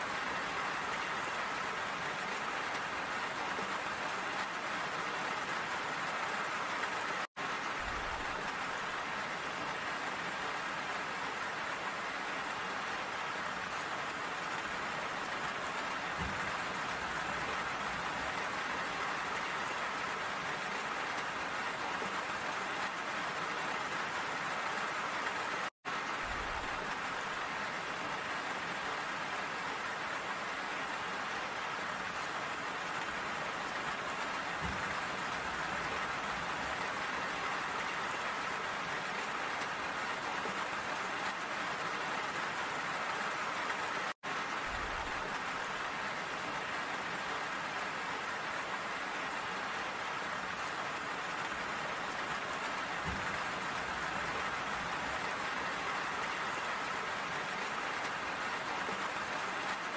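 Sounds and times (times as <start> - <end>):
rain on a metal railing: 0.0 - 59.9.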